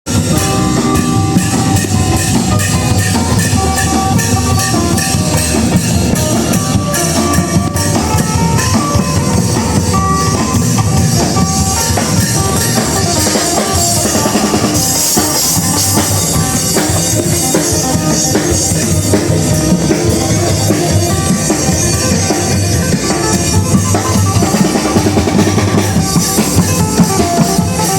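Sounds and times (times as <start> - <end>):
drum kit beat: 0.1 - 27.9
melody of held notes: 0.1 - 27.9.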